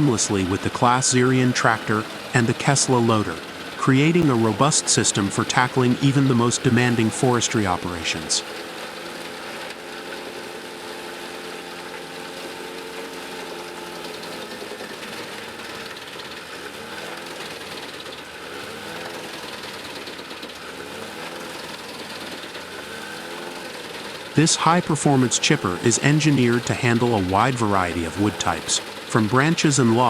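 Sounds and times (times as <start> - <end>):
wood chipper engine running: 0.0 - 30.0.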